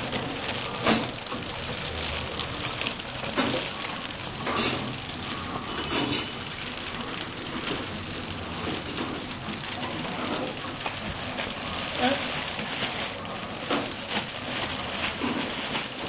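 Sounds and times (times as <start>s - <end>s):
packing machine running: 0.0s - 16.0s
plastic packets dropping on pile: 0.0s - 16.0s.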